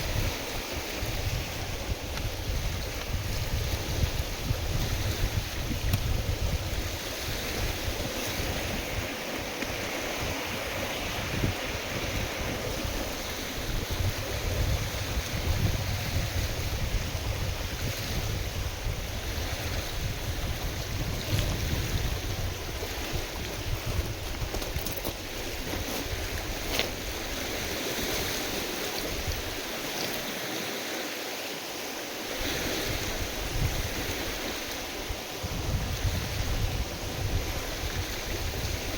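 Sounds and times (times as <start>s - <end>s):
wind buffeting microphone: 0.0s - 29.9s, 32.3s - 38.9s
waves washing on lake: 0.0s - 38.9s.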